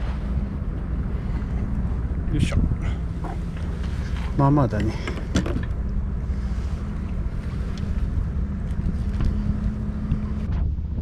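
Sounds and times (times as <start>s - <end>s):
boat engine droning: 0.0s - 11.0s
wind rumbling on microphone: 0.0s - 11.0s.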